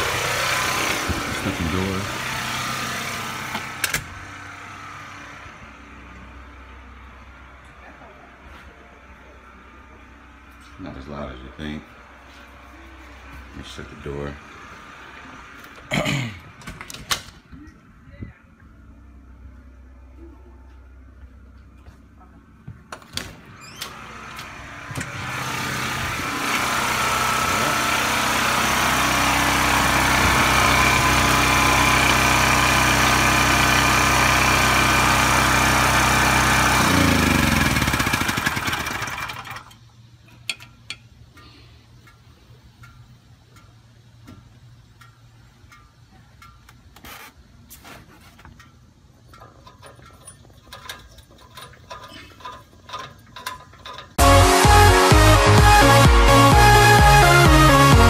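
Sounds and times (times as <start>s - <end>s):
generator engine running: 0.0s - 17.0s, 18.8s - 40.0s, 48.2s - 58.0s.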